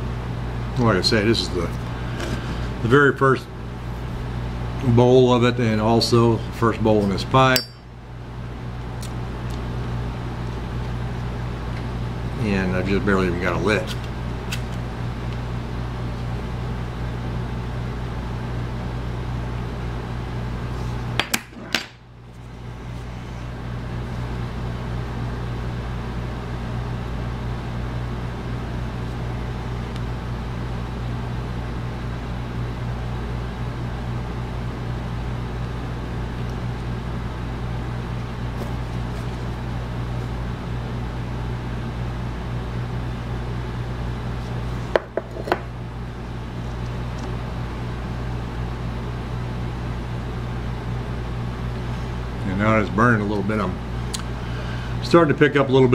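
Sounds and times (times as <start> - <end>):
electrical hum with fan hiss: 0.0 - 55.9.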